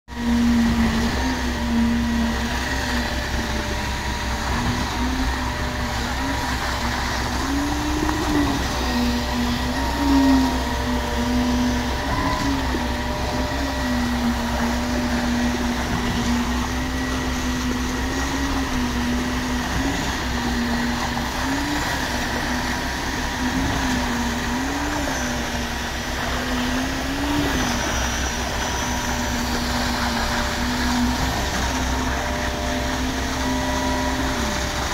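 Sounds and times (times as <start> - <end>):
diesel engines running under load: 0.1 - 34.9.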